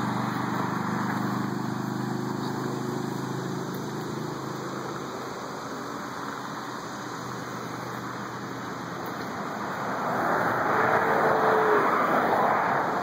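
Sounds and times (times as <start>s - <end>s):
car engine running: 0.0s - 11.7s.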